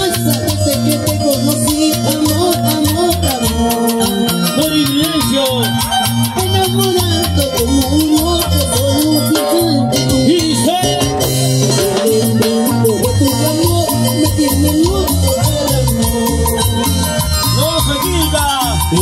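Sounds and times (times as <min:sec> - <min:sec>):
latin dance band music: 0:00.0 - 0:19.0.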